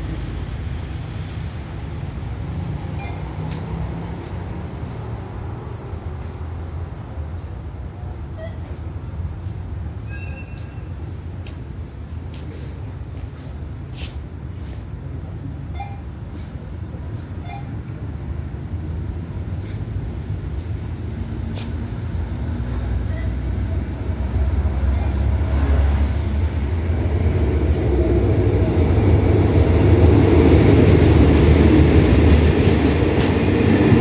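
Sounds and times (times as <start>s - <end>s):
crickets chirring: 0.0s - 34.0s
distant locomotive rumble: 0.0s - 34.0s.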